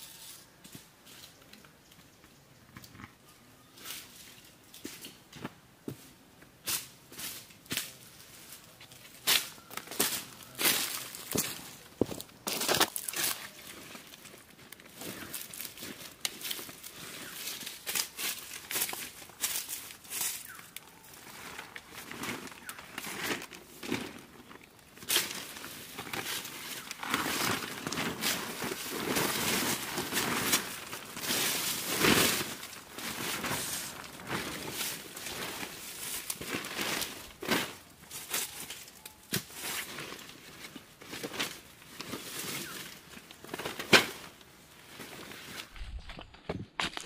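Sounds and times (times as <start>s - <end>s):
plastic tarp crinkling: 9.1s - 47.0s.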